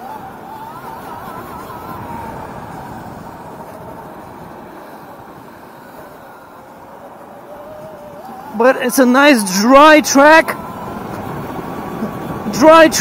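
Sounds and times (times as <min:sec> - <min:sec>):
faint electric motor whine: 0:00.0 - 0:13.0
go-kart rushing rumble: 0:00.0 - 0:13.0.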